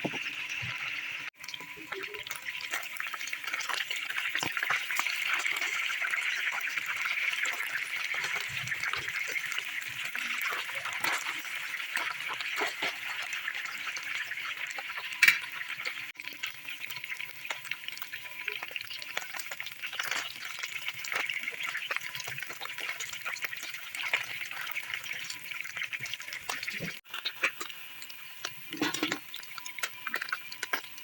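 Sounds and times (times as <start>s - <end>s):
fish frying in hot oil: 0.0s - 31.0s.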